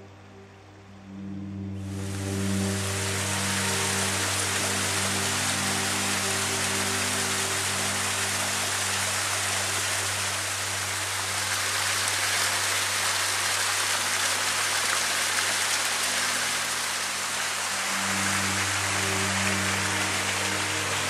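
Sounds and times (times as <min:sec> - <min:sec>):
steady rushing hiss: 0:01.3 - 0:21.0.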